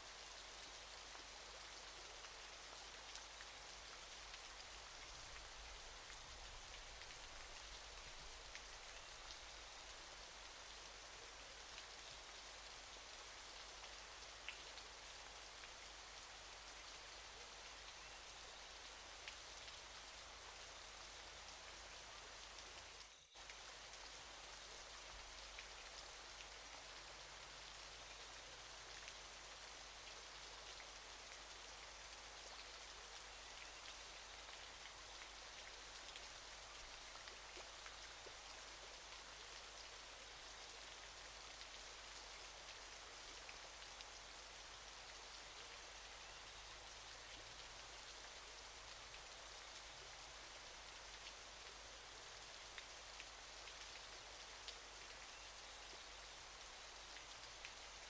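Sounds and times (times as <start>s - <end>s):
waterfall hiss: 0.0s - 58.0s.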